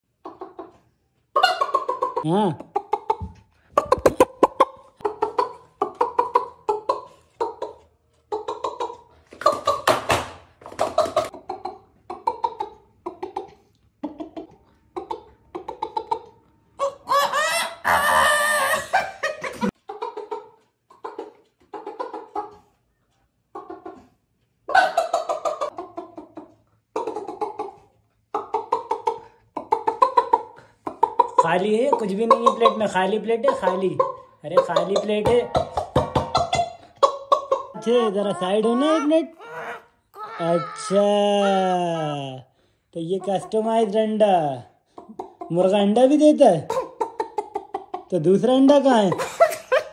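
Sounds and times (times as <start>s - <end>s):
man imitating chicken clucks: 0.2s - 9.9s, 10.8s - 22.6s, 28.4s - 49.3s.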